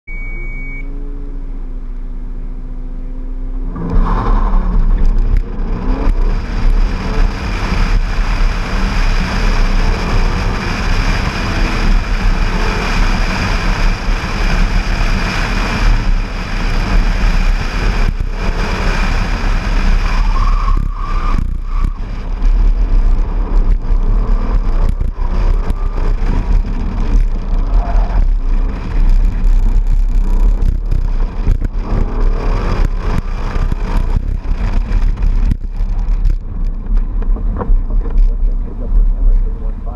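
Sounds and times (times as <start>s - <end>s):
car engine revving hard: 3.2s - 39.6s
wind rush on microphone: 3.8s - 39.9s.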